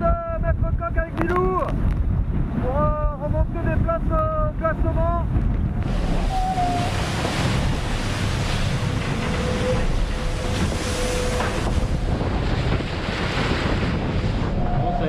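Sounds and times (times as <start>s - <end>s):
wind buffeting microphone: 0.0s - 15.0s
water rushing along hull: 0.4s - 15.0s.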